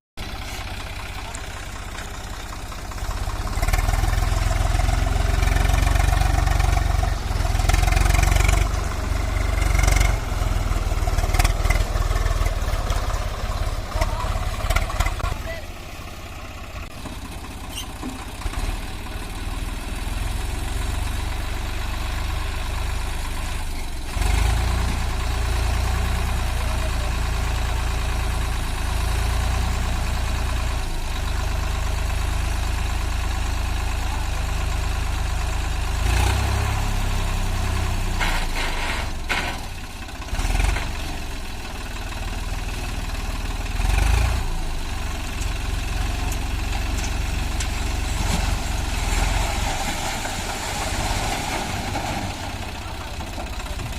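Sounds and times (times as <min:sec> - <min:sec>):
tractor diesel engine running: 0:00.2 - 0:53.9.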